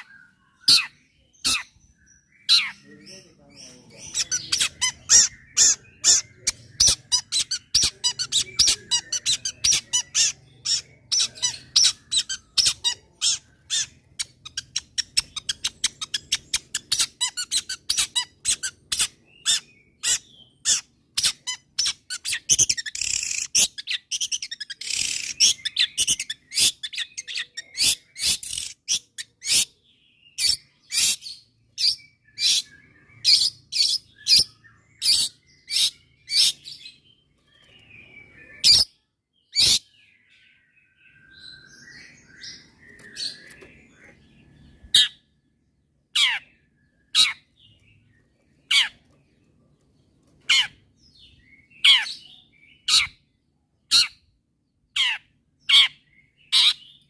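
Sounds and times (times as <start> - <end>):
soft bird twittering: 0.0 - 57.0.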